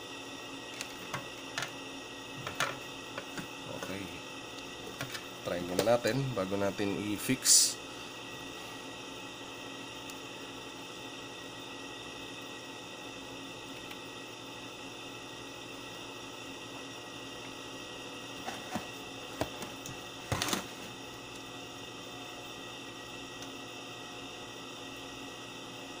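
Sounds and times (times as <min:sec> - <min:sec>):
steady hiss and hum: 0:00.0 - 0:26.0.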